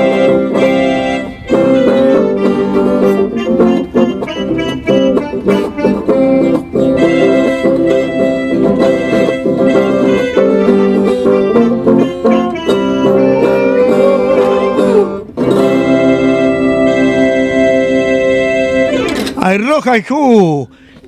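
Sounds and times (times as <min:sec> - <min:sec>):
guitar and keyboard folk music: 0:00.0 - 0:21.0.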